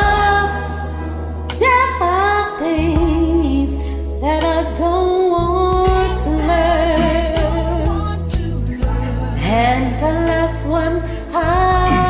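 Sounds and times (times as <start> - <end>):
slow ballad backing track: 0.0 - 12.0.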